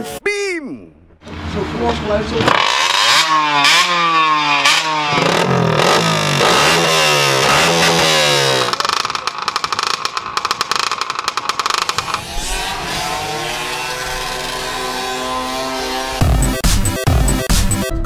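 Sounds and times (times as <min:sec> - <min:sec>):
moped engines revving: 0:01.2 - 0:17.7.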